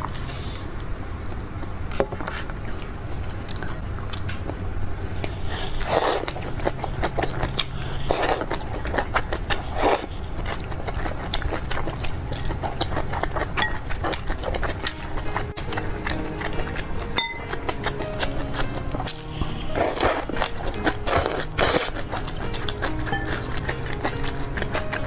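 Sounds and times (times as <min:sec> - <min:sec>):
chewing with wet mouth clicks: 0:02.3 - 0:25.0.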